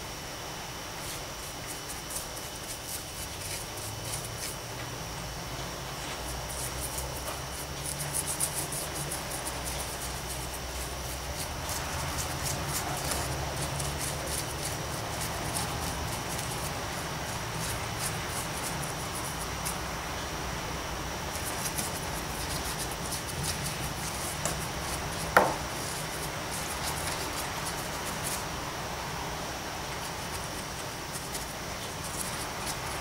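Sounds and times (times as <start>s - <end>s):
low steady hum: 0.0s - 33.0s
paintbrush scratching: 1.0s - 4.8s, 5.5s - 19.8s, 21.3s - 28.5s, 29.9s - 33.0s.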